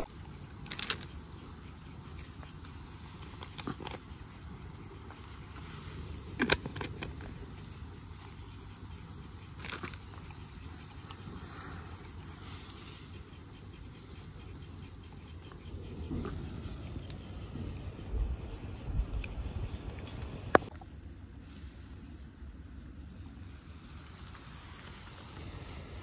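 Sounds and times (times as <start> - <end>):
fire crackling: 0.0 - 26.0
wood fire hissing: 0.0 - 26.0.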